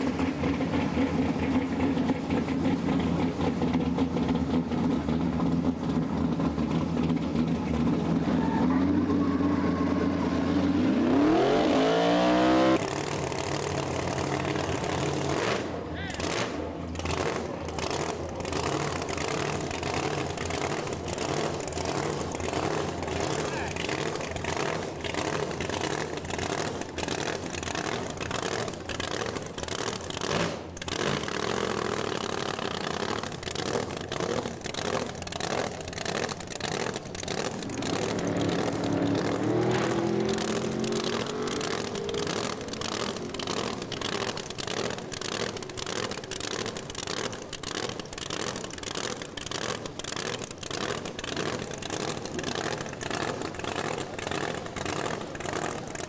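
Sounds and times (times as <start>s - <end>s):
engine revving: 0.0s - 56.0s
race car engine running: 0.0s - 56.0s.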